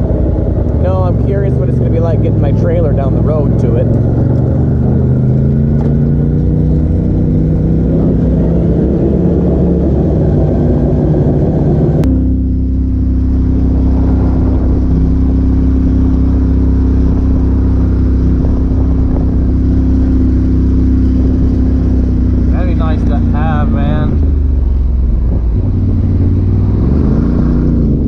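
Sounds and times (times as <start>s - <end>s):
off-road vehicle engine driving on gravel: 0.0s - 28.0s
off-road vehicle engine droning: 0.0s - 28.0s.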